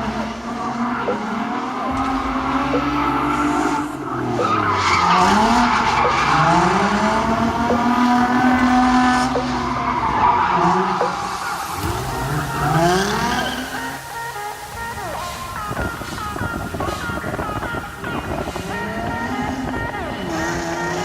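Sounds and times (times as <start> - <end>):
car engine revving: 0.0 - 21.0
tyres squealing and skidding: 0.0 - 21.0.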